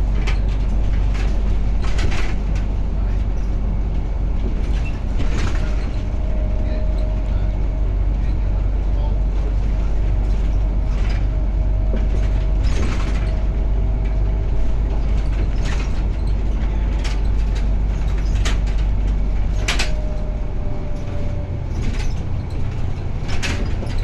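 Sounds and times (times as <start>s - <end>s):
body knocks and rattles: 0.0s - 7.0s, 7.6s - 24.0s
bus engine and road rumble: 0.0s - 24.0s.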